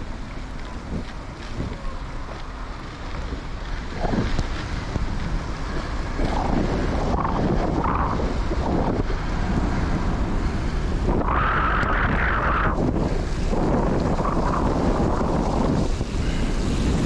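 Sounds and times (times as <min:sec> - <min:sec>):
bicycle tyres rumbling on wet path: 0:00.0 - 0:17.0
wind buffeting microphone: 0:00.0 - 0:17.0.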